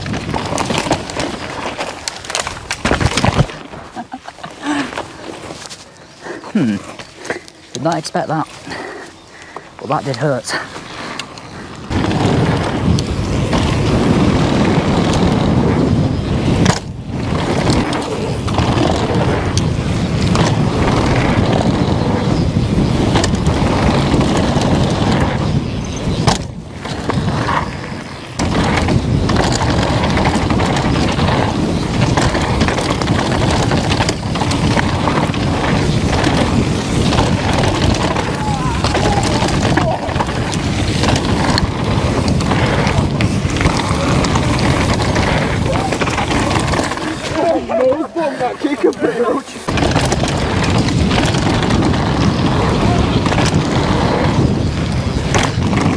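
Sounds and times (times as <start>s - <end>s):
wind noise on microphone: 0.0s - 6.4s, 10.8s - 55.9s
bike rattling over bumps: 0.0s - 55.9s
tyres rolling on dirt and rock: 0.0s - 55.9s.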